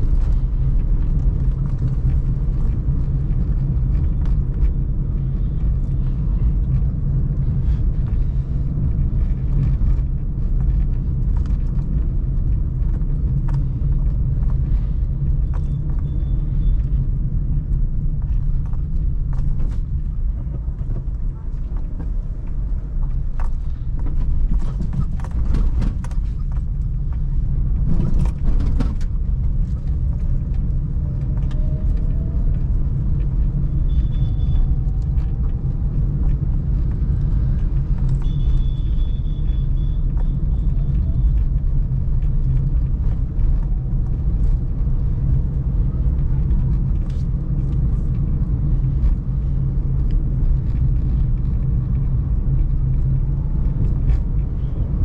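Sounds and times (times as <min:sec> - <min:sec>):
car engine rumbling while driving: 0:00.0 - 0:55.0
road noise: 0:00.0 - 0:55.0.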